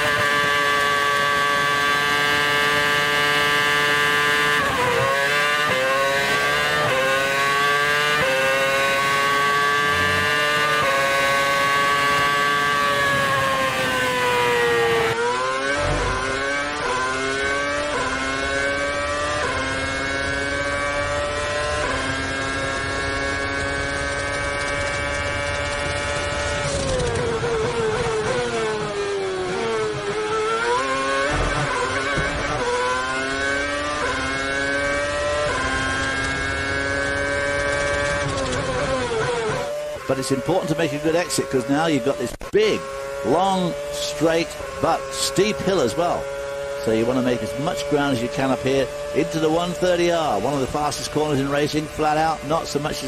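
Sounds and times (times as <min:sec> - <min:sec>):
racing car engine revving: 0:00.0 - 0:53.0.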